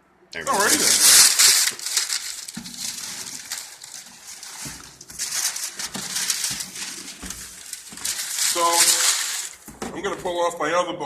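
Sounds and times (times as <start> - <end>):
cardboard box rustling and scraping: 0.5 - 10.4.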